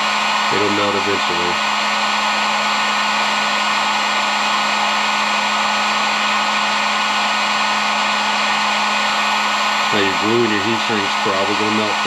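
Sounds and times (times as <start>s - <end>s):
heat gun fan whirring: 0.0s - 12.0s.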